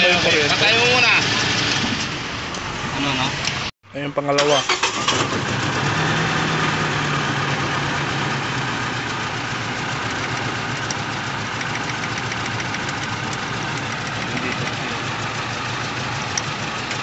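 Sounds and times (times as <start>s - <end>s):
car engine idling with misfire: 0.0s - 3.6s, 4.6s - 17.0s.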